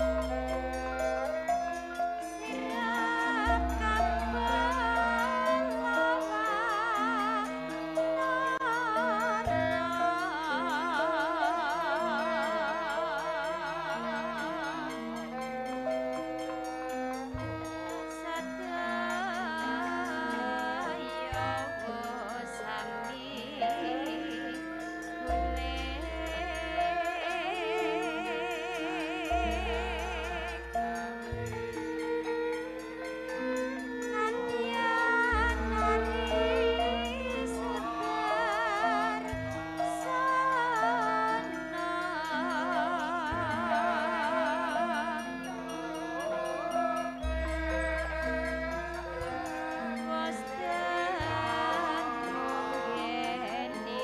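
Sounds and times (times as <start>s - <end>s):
bowed string instrument: 0.0s - 54.0s
gamelan ensemble playing: 0.0s - 54.0s
woman singing ornamented melody: 0.0s - 54.0s.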